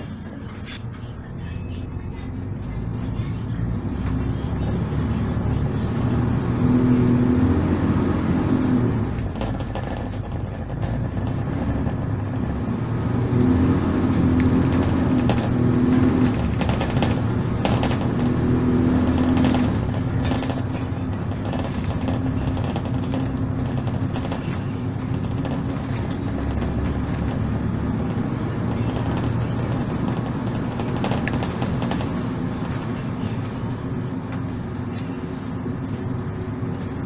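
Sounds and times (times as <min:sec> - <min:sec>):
bus body rattling: 0:00.0 - 0:37.0
bus diesel engine running: 0:00.0 - 0:37.0.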